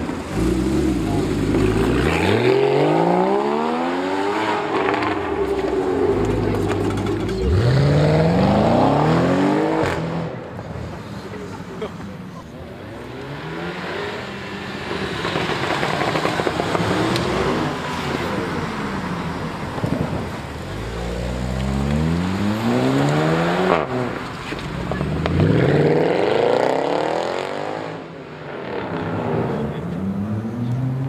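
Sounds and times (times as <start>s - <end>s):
car engines accelerating hard: 0.0s - 31.0s.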